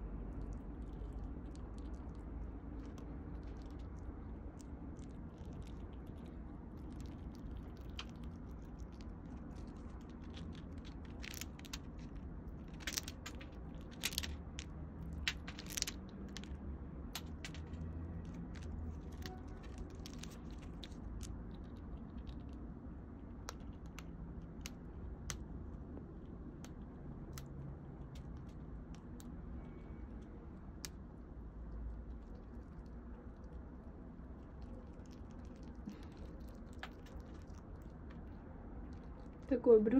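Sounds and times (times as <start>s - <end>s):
squirrel cracking and chewing seeds: 0.1s - 39.6s.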